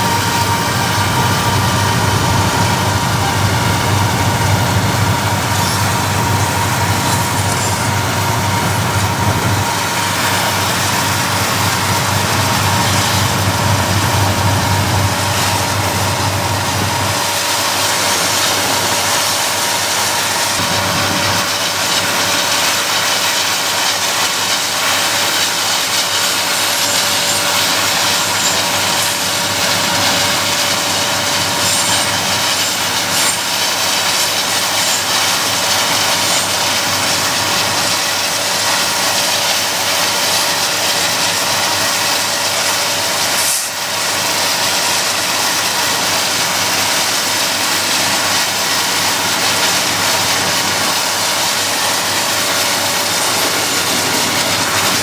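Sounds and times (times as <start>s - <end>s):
train rushing at speed: 0.0s - 55.0s.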